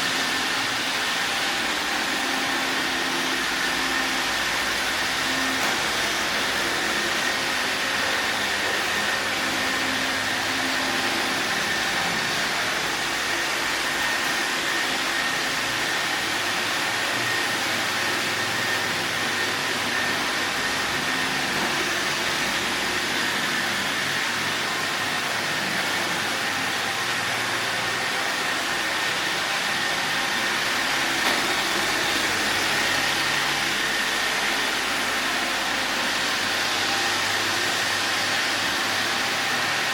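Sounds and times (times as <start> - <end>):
robot vacuum cleaner whirring: 0.0 - 39.9.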